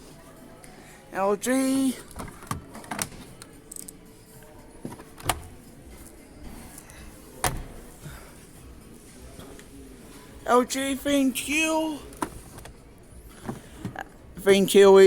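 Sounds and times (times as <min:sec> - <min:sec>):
quiet shop background: 0:00.0 - 0:15.0.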